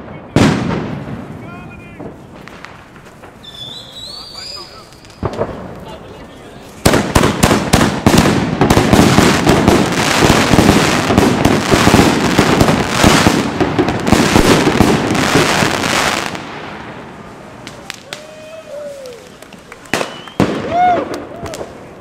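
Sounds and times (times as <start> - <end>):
firework fountain crackling: 0.0 - 22.0.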